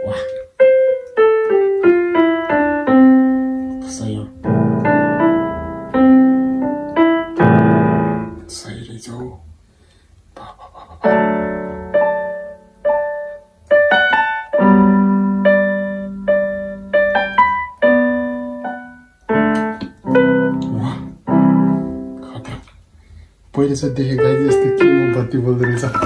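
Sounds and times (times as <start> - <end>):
electronic keyboard piano melody: 0.0 - 8.6, 11.0 - 22.6, 23.6 - 26.0.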